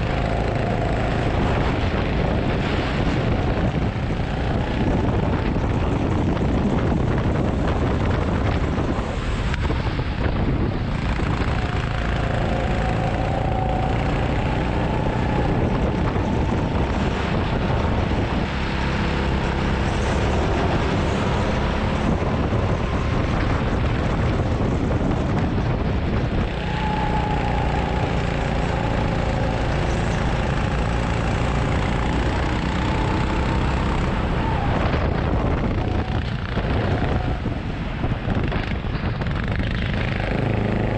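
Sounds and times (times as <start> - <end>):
go-kart engines racing: 0.0 - 40.9
wind noise on microphone: 0.0 - 40.9.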